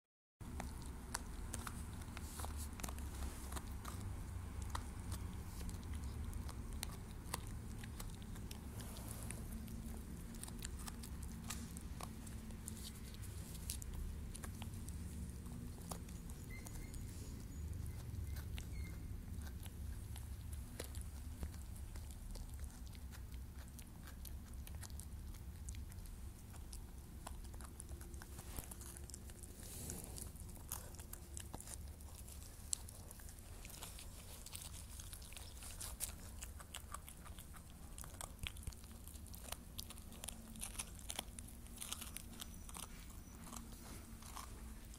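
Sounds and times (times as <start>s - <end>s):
dog gnawing a bone: 0.4s - 44.9s.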